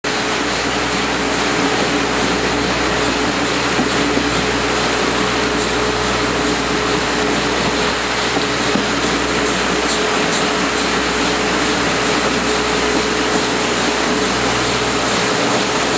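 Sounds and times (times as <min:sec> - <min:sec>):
steam locomotive exhaust: 0:00.1 - 0:15.9
train wheels on rails: 0:00.3 - 0:15.9.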